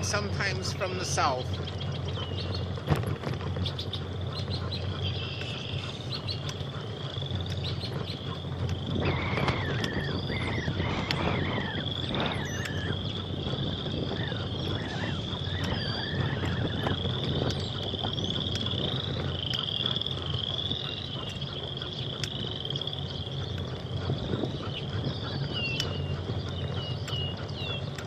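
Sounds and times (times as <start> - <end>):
high pulsing animal trill: 0.0 - 28.0
wind rumble on microphone: 0.0 - 28.0.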